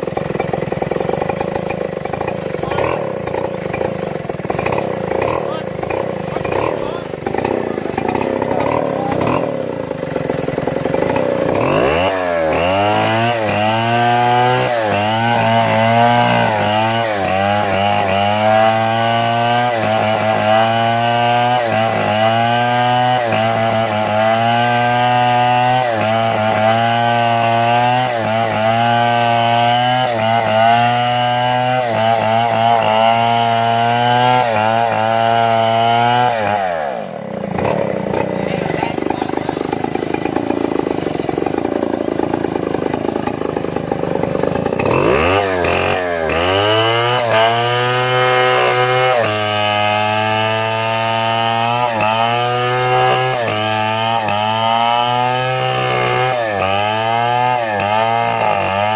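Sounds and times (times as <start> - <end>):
chainsaw cutting through wood: 0.0 - 58.9.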